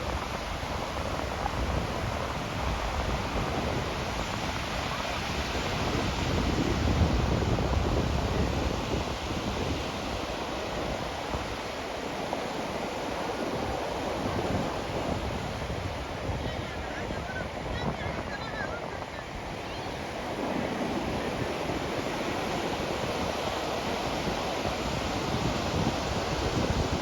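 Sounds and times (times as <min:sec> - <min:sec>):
waves on a sandy beach: 0:00.0 - 0:27.0
wind rumbling on microphone: 0:00.0 - 0:27.0.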